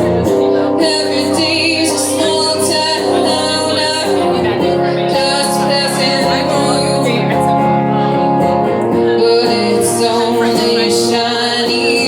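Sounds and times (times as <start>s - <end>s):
live band playing: 0.0s - 12.0s
person singing: 0.0s - 12.0s.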